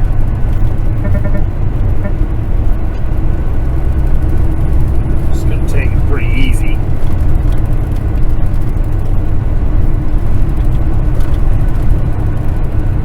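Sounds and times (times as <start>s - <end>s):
truck diesel engine rumble: 0.0s - 13.0s.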